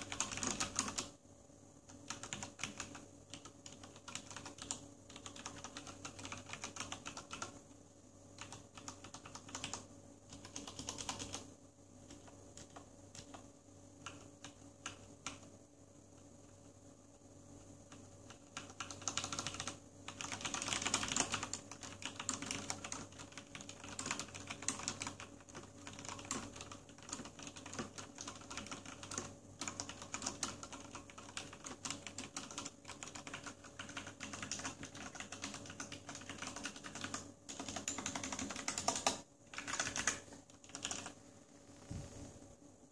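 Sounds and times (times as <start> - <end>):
mechanical keyboard typing: 0.0 - 1.1, 1.9 - 7.6, 8.4 - 13.4, 14.0 - 15.5, 17.9 - 41.2.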